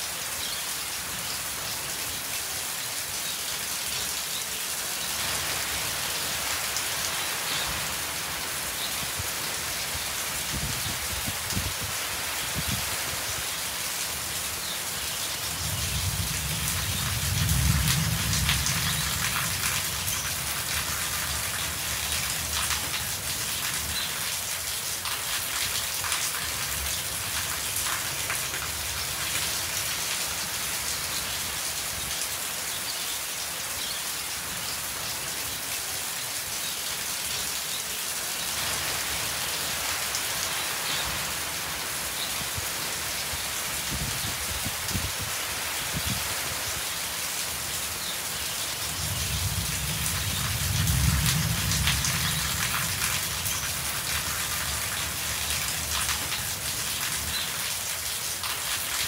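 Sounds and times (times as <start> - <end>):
rain on metal roofing: 0.0 - 59.0.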